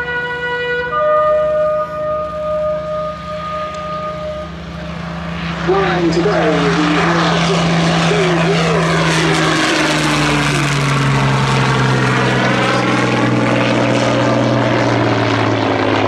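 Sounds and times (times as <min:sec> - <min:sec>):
propeller plane droning overhead: 0:00.0 - 0:16.0.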